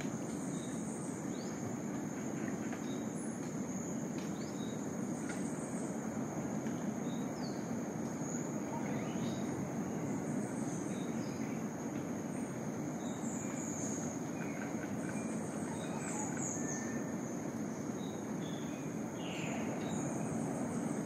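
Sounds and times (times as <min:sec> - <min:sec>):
continuous low rush: 0:00.0 - 0:21.0.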